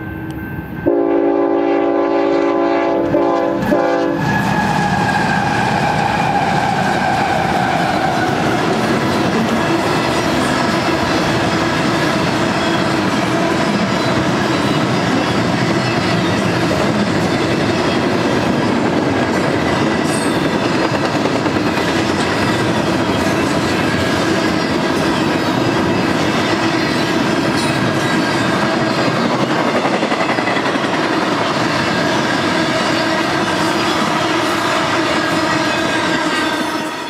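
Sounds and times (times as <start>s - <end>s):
steel wheels on rail: 0.0s - 37.0s.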